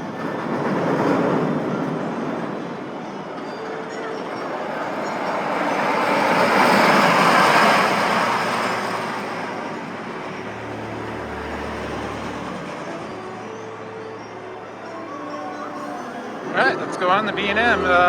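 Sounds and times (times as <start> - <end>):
roller coaster rushing past: 0.0 - 14.2, 15.0 - 18.0.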